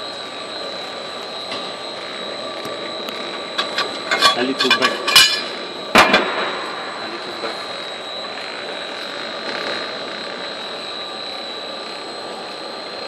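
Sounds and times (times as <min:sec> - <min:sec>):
machinery hum with high whine: 0:00.0 - 0:13.0.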